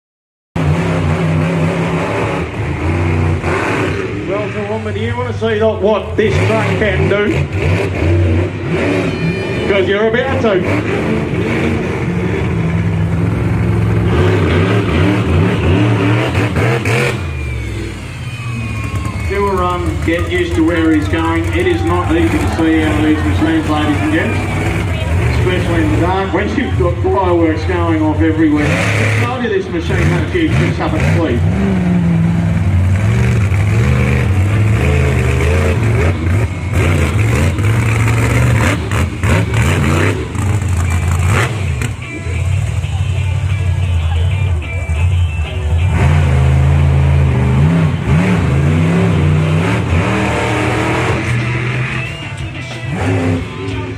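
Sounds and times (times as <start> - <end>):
monster truck engine revving: 0.6 - 53.9.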